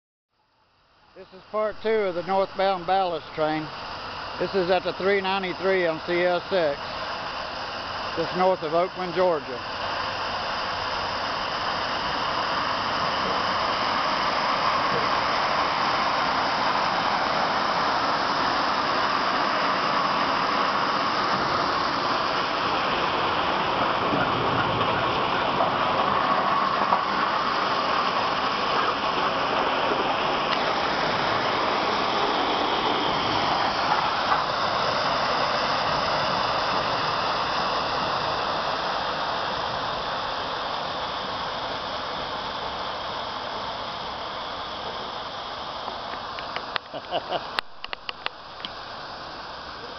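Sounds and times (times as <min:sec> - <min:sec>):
train rolling: 0:01.6 - 0:49.9.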